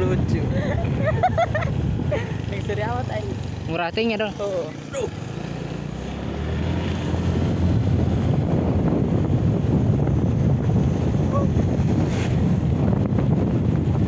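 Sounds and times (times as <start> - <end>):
wind buffeting microphone: 0.0 - 3.8, 5.6 - 14.0.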